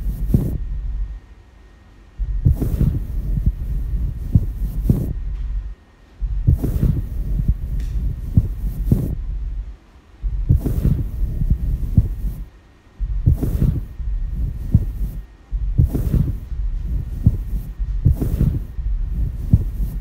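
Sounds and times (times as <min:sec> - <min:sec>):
deep thumps: 0:00.0 - 0:01.2, 0:02.2 - 0:20.0.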